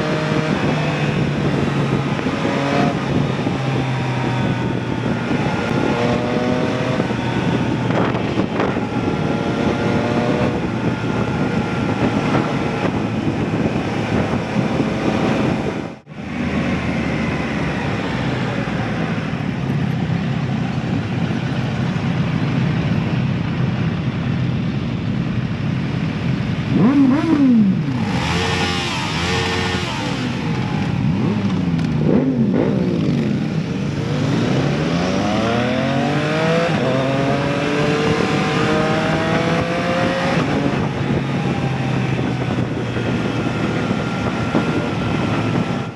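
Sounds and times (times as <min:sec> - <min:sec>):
wind and road noise: 0:00.0 - 0:45.9.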